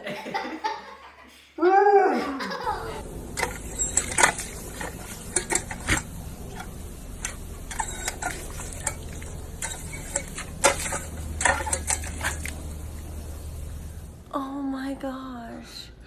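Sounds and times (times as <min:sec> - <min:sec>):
low steady hum: 0:02.6 - 0:16.0.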